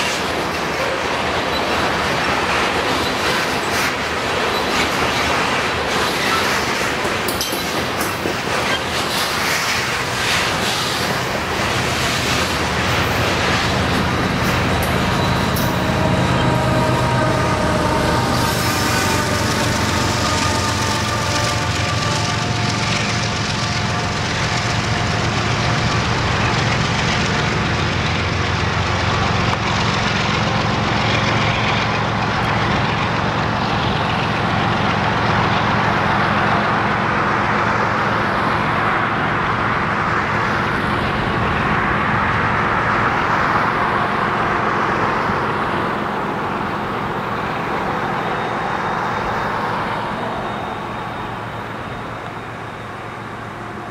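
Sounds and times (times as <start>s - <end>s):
diesel locomotives droning: 0.0s - 53.9s
freight cars rumbling on rails: 0.0s - 53.9s.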